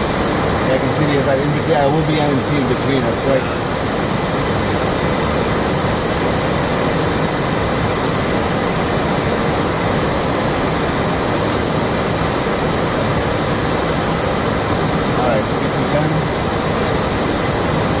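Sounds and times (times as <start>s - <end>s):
constant roar of air: 0.0s - 18.0s.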